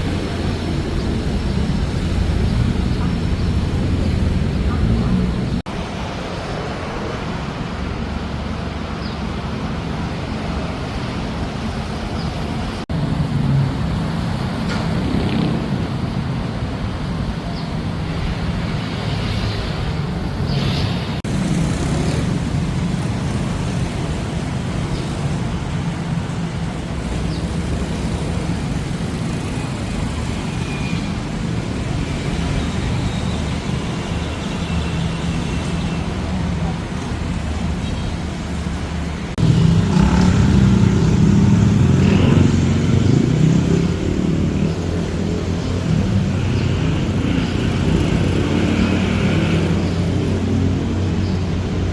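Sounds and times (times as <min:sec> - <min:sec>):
road traffic hum: 0:00.0 - 0:51.9.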